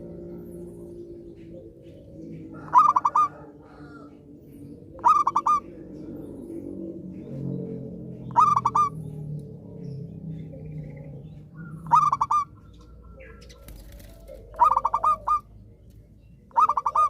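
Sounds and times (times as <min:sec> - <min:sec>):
faint low hum: 0:00.0 - 0:16.5
dove cooing: 0:00.0 - 0:17.0.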